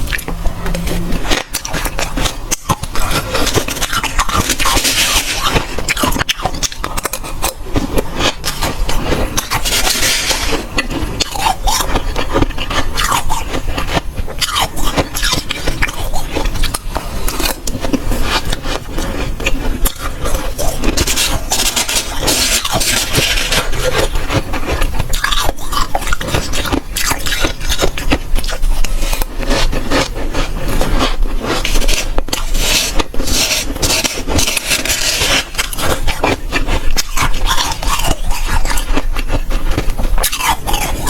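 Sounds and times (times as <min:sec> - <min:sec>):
crunching and scraping of frost: 0:00.0 - 0:41.0.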